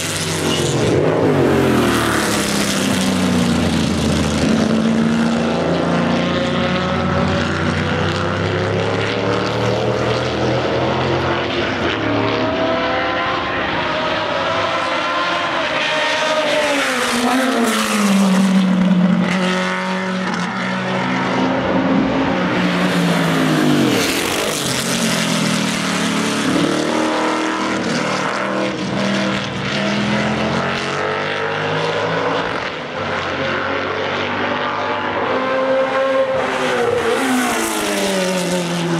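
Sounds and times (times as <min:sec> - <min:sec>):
racing cars passing at speed: 0:00.0 - 0:38.9.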